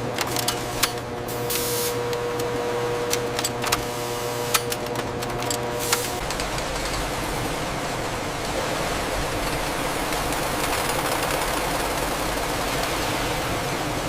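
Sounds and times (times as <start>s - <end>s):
factory machinery humming: 0.0s - 14.0s.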